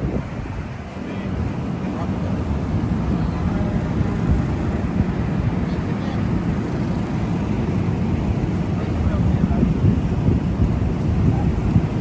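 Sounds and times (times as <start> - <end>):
city street noise: 0.0 - 12.0
wind buffeting microphone: 0.0 - 12.0
faint voices of passers-by: 0.6 - 12.0.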